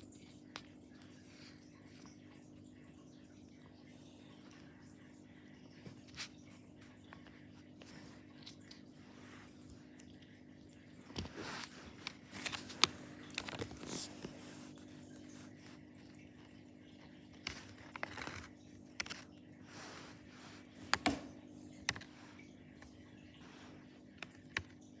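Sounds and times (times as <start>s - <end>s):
clicks taps and crinkly scrapes: 0.0s - 25.0s.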